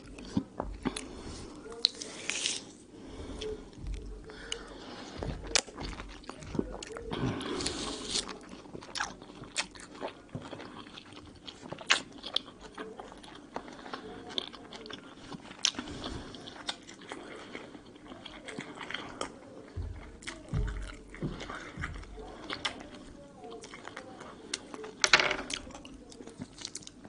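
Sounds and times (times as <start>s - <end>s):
person chewing fruit: 0.0s - 27.0s.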